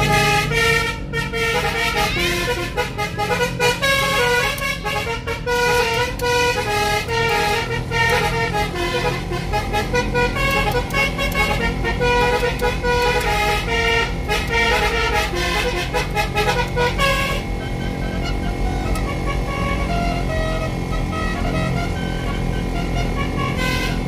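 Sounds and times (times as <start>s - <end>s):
car rumble: 0.0s - 24.0s
musical car horn tune: 0.0s - 24.0s.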